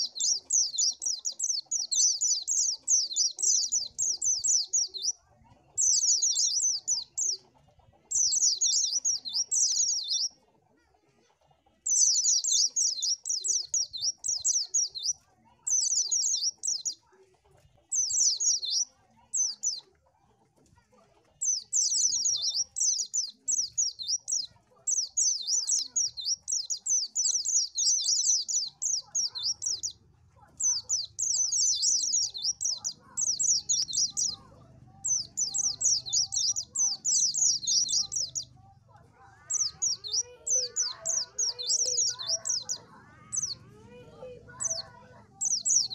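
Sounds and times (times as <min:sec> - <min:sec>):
high-pitched bird twittering: 0:00.0 - 0:05.2, 0:05.8 - 0:07.5, 0:08.1 - 0:10.4, 0:11.8 - 0:17.0, 0:17.9 - 0:19.8, 0:21.4 - 0:30.0, 0:30.6 - 0:38.6, 0:39.4 - 0:43.7, 0:44.4 - 0:45.9.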